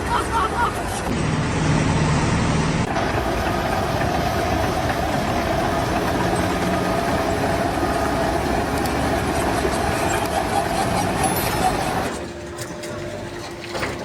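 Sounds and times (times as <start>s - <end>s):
engine running steadily: 0.9s - 14.0s.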